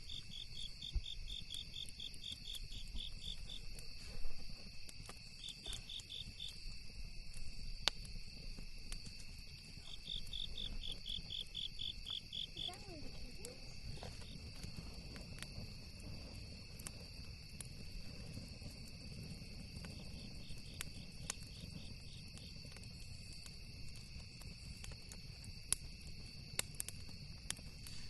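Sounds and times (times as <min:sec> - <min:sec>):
high insect drone: 0:00.0 - 0:24.8
campfire crackling: 0:00.0 - 0:28.0
crickets chirping: 0:00.0 - 0:28.0.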